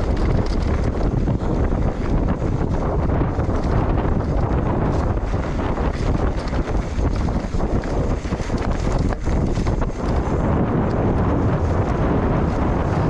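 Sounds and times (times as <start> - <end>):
bike knocking and rattling: 0.0 - 13.0
wind buffeting microphone: 0.0 - 13.0.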